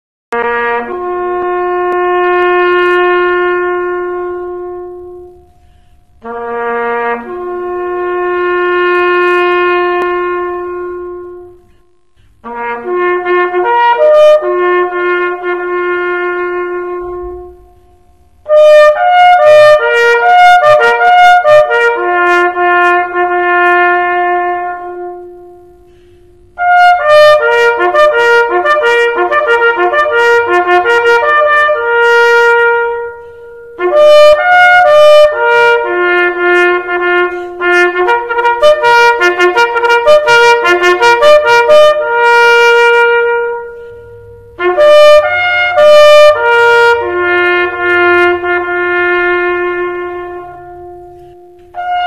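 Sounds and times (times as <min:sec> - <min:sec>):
solo bugle playing: 0:00.3 - 0:52.0.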